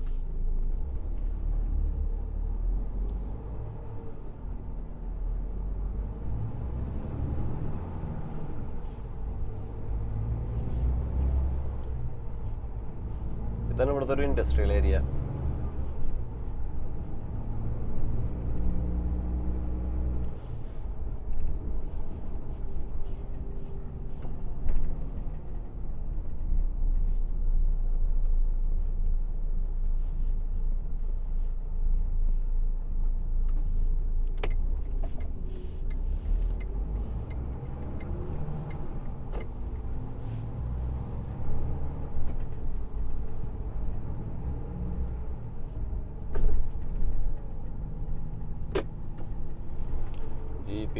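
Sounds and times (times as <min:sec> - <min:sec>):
road rumble: 0:00.0 - 0:50.9.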